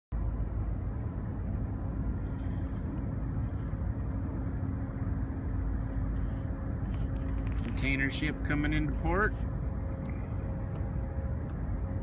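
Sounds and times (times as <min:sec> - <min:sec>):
marine engine running: 0:00.1 - 0:12.0.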